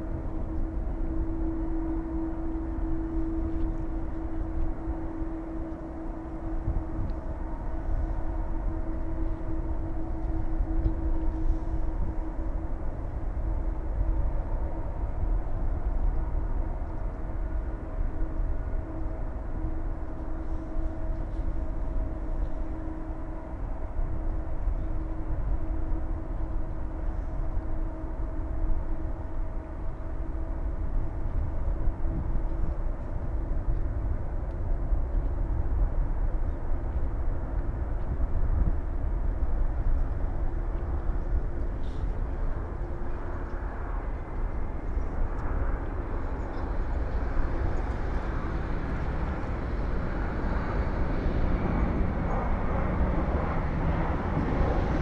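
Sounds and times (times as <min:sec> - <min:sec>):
jet engines idling with whine: 0:00.0 - 0:55.0.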